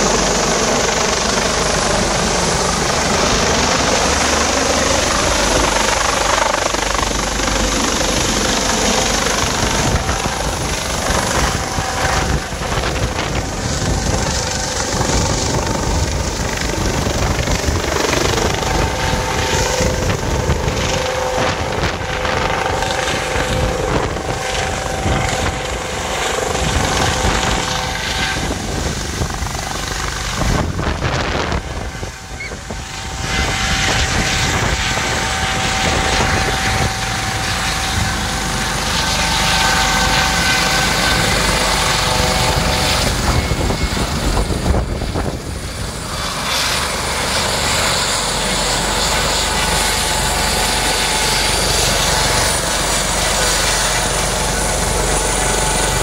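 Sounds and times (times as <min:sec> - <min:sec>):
helicopter rotor and engine: 0:00.0 - 0:56.0
steady whine: 0:00.0 - 0:56.0.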